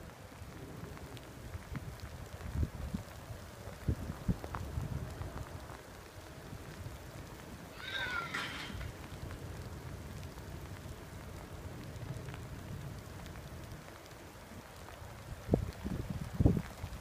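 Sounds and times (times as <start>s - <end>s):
light hiss: 0.0s - 17.0s
wind rumble on microphone: 0.0s - 17.0s.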